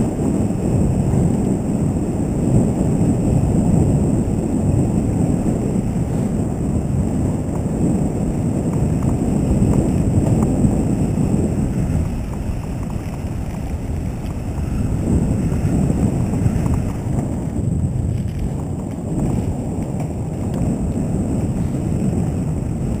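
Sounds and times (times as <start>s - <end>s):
bike ticks and rattles: 0.0s - 23.0s
bike tyres rolling on dirt: 0.0s - 23.0s
wind buffeting microphone: 0.0s - 23.0s.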